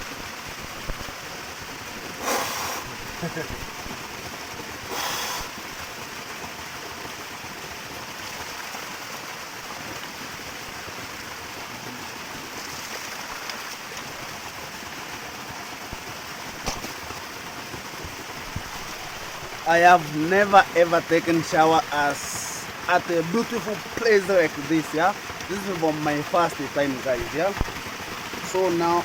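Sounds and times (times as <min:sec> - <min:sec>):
waterfall and stream running: 0:00.0 - 0:29.0.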